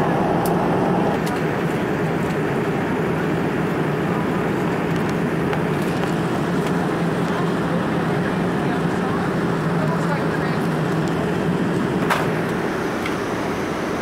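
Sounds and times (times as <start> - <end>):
airliner cabin airflow and engine noise: 0.0 - 14.0.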